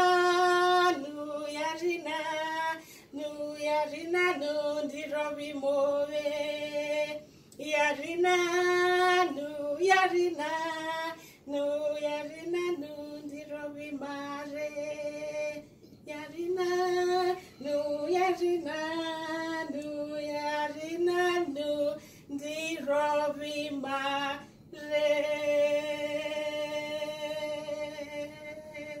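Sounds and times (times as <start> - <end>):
woman singing: 0.0 - 29.0.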